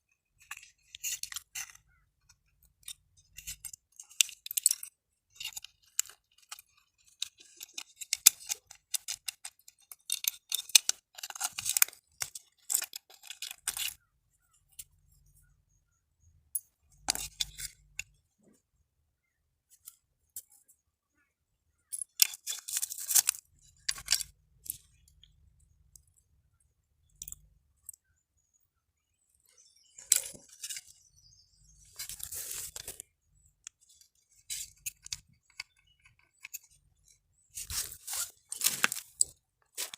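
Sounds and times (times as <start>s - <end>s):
small plastic parts clicking and crunching: 0.1s - 14.1s, 16.5s - 18.5s, 21.8s - 28.1s, 29.3s - 39.9s.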